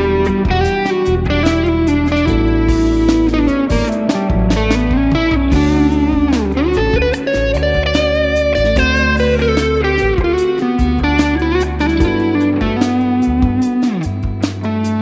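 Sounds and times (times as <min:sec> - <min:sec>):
bass and drums backing track: 0:00.0 - 0:15.0
electric guitar lead line: 0:00.0 - 0:15.0.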